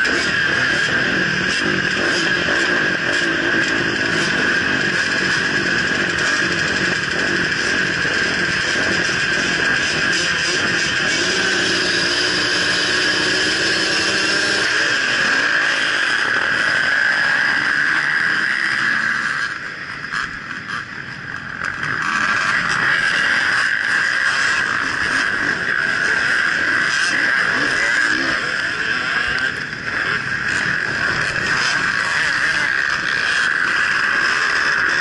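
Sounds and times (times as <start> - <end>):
dirt bikes racing at high revs: 0.0 - 35.0.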